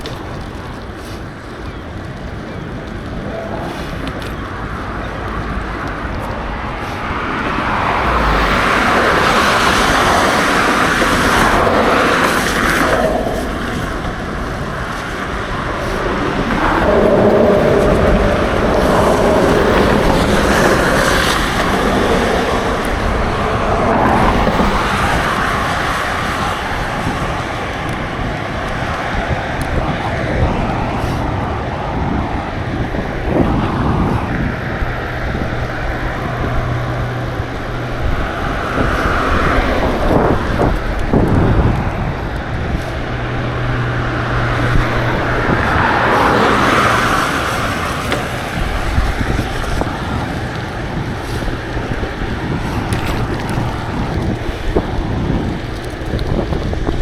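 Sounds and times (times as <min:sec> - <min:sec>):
passing traffic: 0:00.0 - 0:57.0
wind rushing over microphone: 0:00.0 - 0:57.0.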